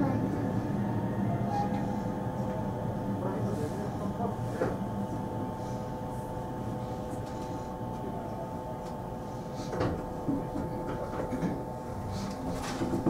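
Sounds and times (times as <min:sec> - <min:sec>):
electric train equipment hum: 0:00.0 - 0:13.0.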